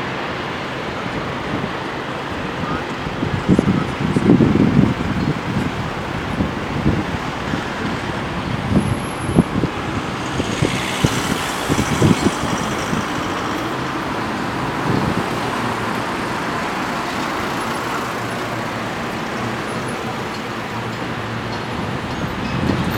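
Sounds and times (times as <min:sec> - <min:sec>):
cars driving past: 0:00.0 - 0:22.9.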